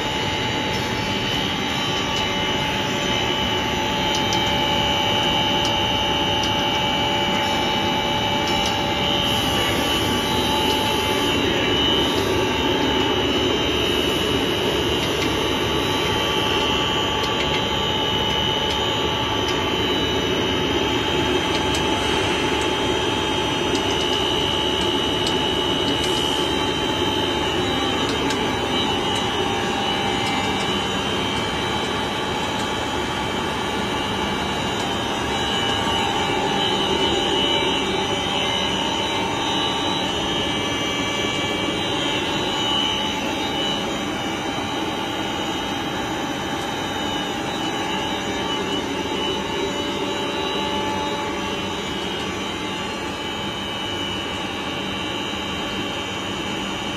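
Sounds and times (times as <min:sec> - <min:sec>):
steady whining tones: 0:00.0 - 0:56.9.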